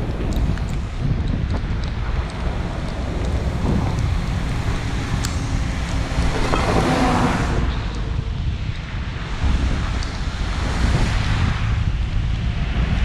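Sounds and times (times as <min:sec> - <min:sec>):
steady low rumble: 0:00.0 - 0:13.0
wind buffeting microphone: 0:00.0 - 0:13.0.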